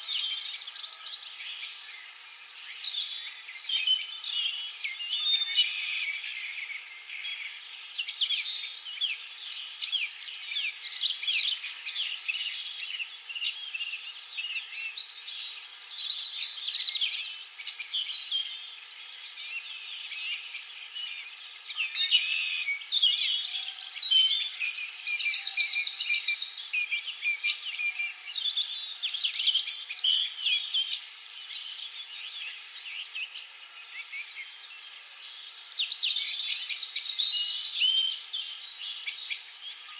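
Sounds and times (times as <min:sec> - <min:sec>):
songbirds chirping in chorus: 0:00.0 - 0:39.9.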